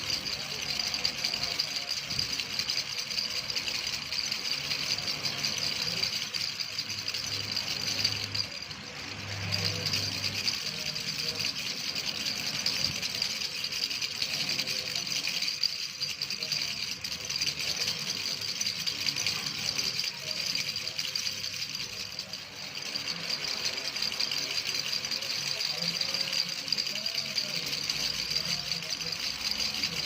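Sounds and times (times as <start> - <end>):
baby rattle shaken fast: 0.0 - 30.0.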